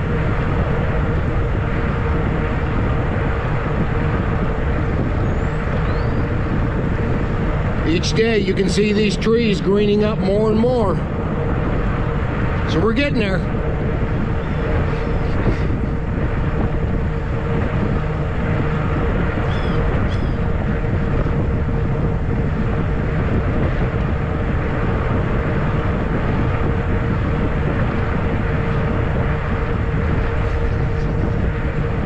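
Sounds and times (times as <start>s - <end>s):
steady mid-pitched hum: 0.0s - 32.0s
tyre and motor noise: 0.0s - 32.0s
wind rushing over microphone: 0.0s - 32.0s.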